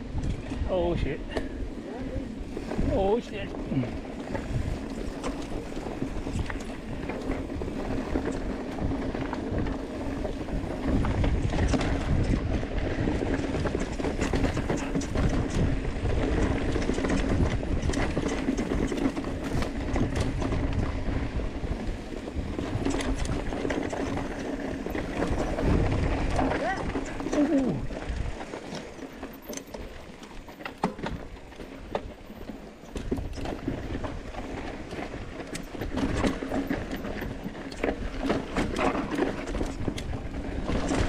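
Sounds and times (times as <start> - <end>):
bike rattling and clicking: 0.0 - 41.0
bike tyres on loose dirt: 0.0 - 41.0
wind rumbling on microphone: 0.0 - 41.0.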